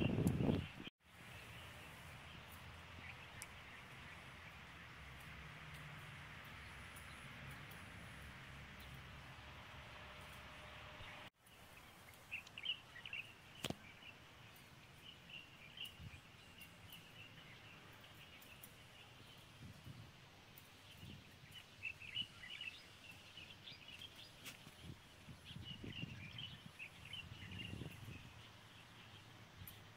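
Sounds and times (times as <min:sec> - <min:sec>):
faint birds chirping: 0:00.0 - 0:29.9
low outdoor hum: 0:01.0 - 0:29.9.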